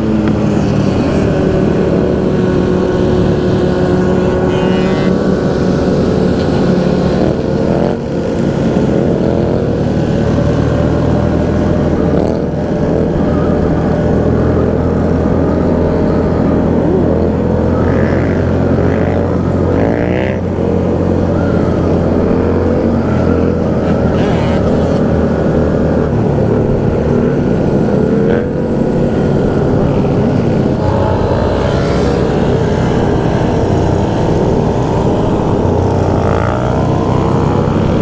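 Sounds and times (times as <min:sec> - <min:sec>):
motorcycle engine drone: 0:00.0 - 0:38.0
motorcycles revving and accelerating: 0:00.0 - 0:38.0.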